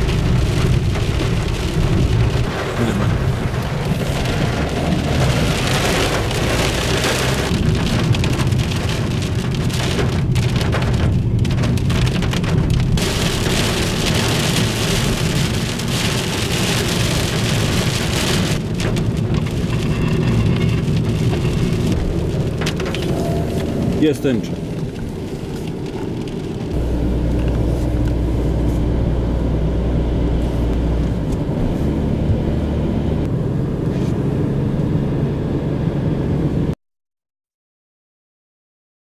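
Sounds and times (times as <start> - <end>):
rain hissing on windscreen: 0.0 - 34.2
road noise rumble: 0.0 - 36.8.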